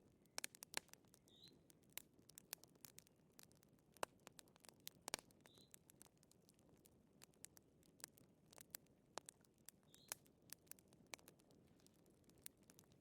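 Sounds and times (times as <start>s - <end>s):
faint wood fire crackling: 0.0s - 13.0s.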